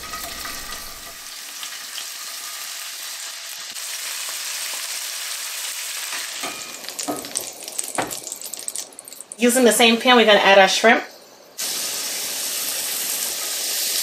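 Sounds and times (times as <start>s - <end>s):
sausage sizzling in hot oil: 0.0s - 10.1s, 11.6s - 14.0s.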